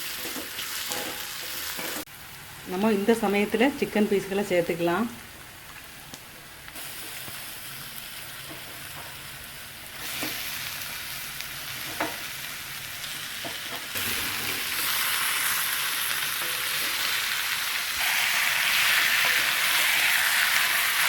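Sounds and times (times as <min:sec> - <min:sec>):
chicken sizzling in hot oil: 0:00.0 - 0:02.1, 0:05.7 - 0:21.0.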